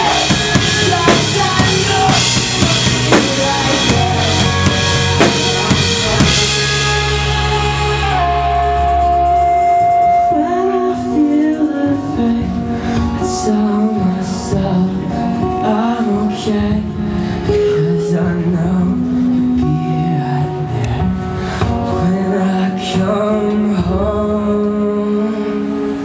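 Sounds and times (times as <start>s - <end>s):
man singing: 0.0s - 26.0s.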